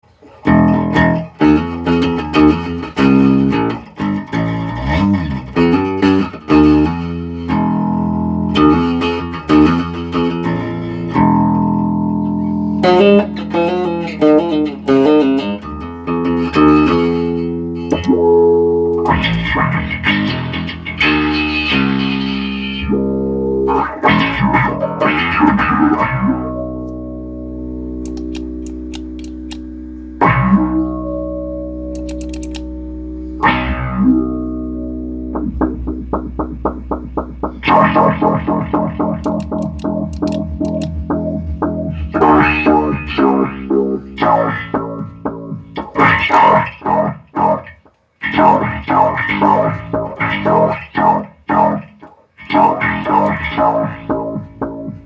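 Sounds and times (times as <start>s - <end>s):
bass guitar through envelope filter: 0.0s - 55.0s.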